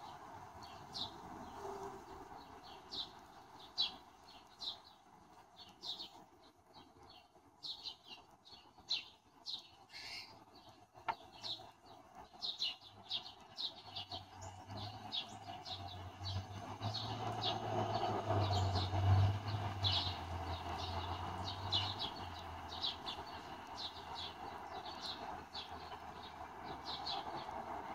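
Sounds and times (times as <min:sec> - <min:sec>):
sparrows chirping: 0:00.0 - 0:27.9.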